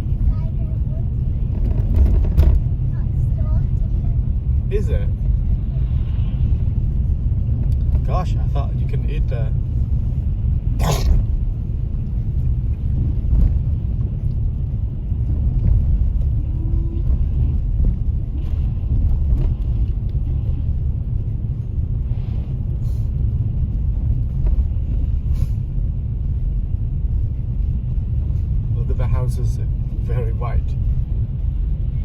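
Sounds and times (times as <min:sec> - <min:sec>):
car driving on snow: 0:00.0 - 0:32.0.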